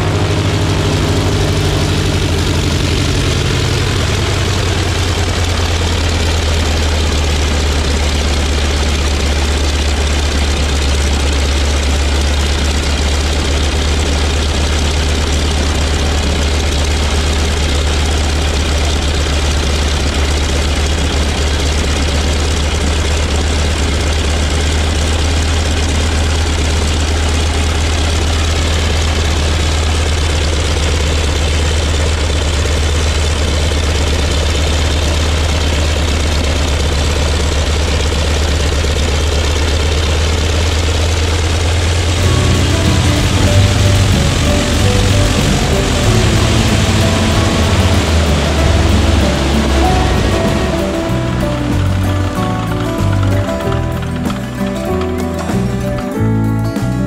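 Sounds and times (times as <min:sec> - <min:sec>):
radial aircraft engine droning: 0:00.0 - 0:55.1.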